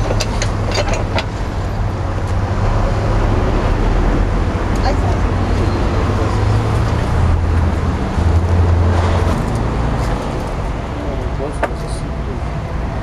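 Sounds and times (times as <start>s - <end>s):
motor vehicle rumbling: 0.0s - 13.0s
street traffic: 0.0s - 13.0s.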